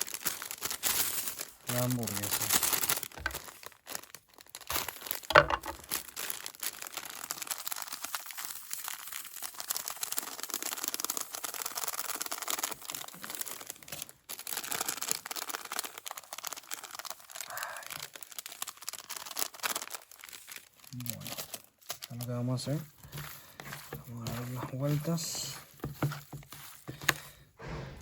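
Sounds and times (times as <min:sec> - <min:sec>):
hands crinkling and rustling ingredients: 0:00.0 - 0:28.0.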